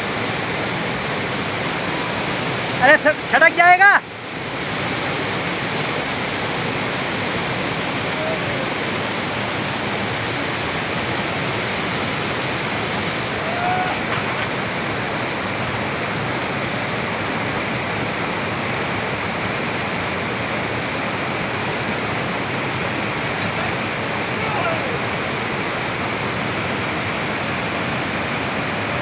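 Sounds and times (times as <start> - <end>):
water rushing over spillway: 0.0 - 29.0.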